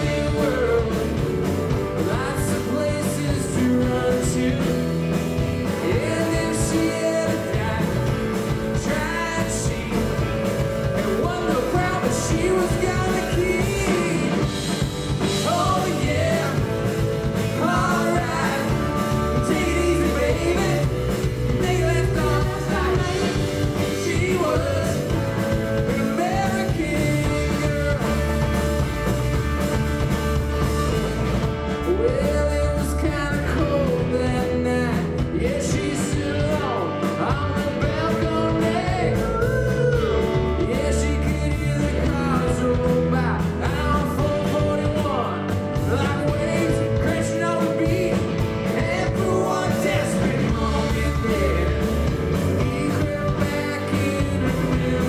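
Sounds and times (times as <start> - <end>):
man singing: 0.0 - 28.9, 31.8 - 55.0
bass guitar: 0.0 - 55.0
electric guitar: 0.0 - 55.0.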